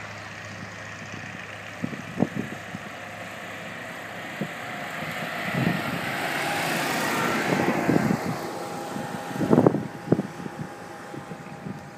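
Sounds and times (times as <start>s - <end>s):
biplane engine and propeller: 0.0s - 11.9s
wind buffeting microphone: 0.5s - 11.9s.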